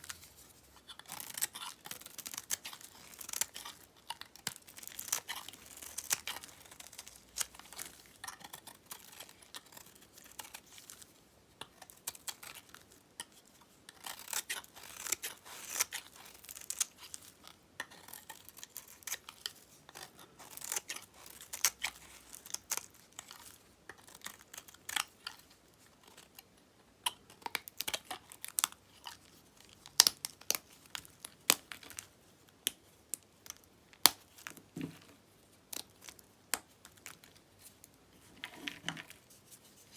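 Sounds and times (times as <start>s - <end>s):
knife cutting soap: 0.0s - 39.9s.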